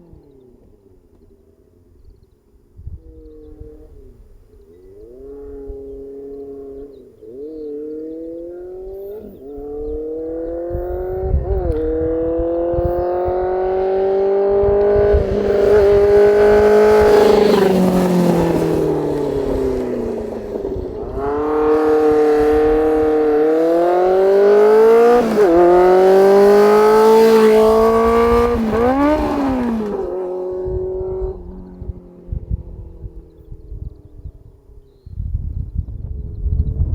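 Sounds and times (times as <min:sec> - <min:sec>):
motorcycle engine revving: 0:03.5 - 0:34.1.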